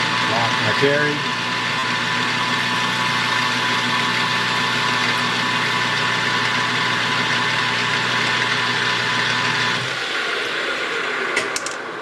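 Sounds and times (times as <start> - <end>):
lathe spindle humming and whining: 0.0 - 12.0.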